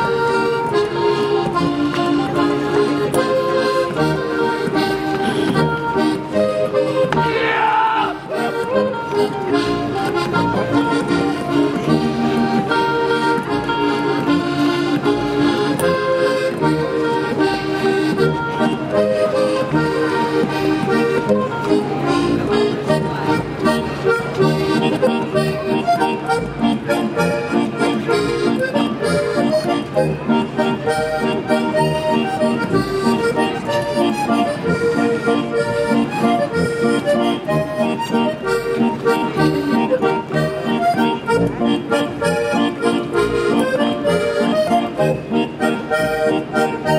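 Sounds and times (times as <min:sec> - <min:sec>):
accordion folk dance music: 0:00.0 - 0:46.9.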